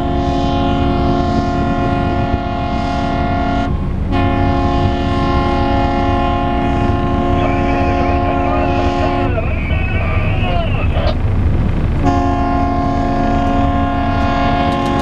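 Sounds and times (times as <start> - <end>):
boat horns blasting: 0.0 - 11.2, 12.0 - 15.0
boat engines rumbling: 0.0 - 15.0.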